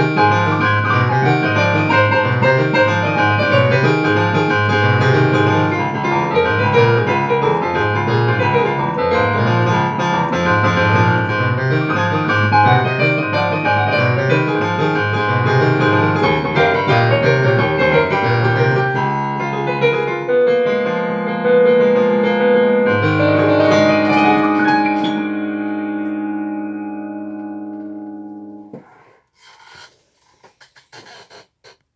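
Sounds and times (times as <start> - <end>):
piano music: 0.0 - 28.8.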